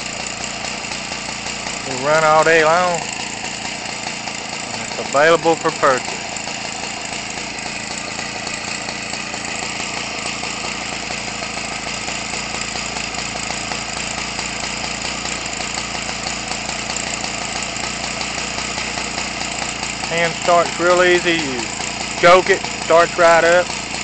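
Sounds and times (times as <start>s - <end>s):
two-stroke engine running steadily: 0.0s - 24.0s.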